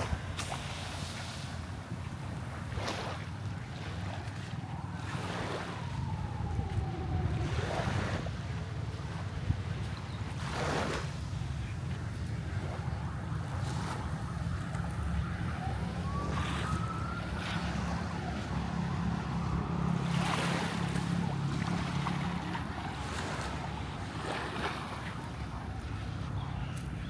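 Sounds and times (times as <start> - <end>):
boat engine drone: 0.0 - 27.0
waves washing on shore: 0.0 - 27.0
wind on microphone: 0.0 - 27.0.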